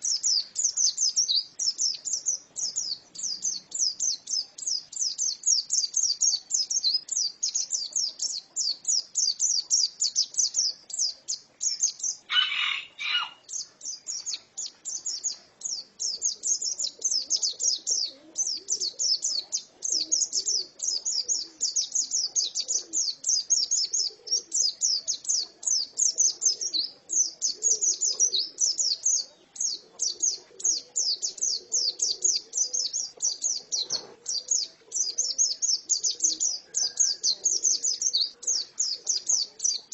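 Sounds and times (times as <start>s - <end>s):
bird singing high twittering chirps: 0.0s - 39.9s.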